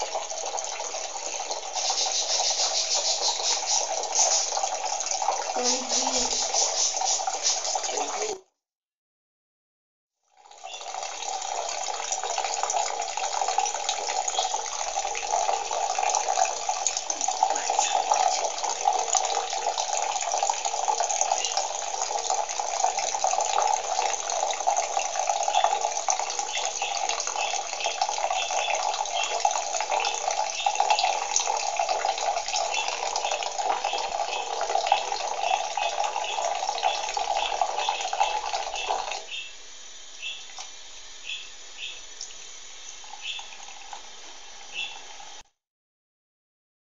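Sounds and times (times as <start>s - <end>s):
tap water running into sink: 0.0s - 8.4s, 10.4s - 39.3s, 42.2s - 45.4s.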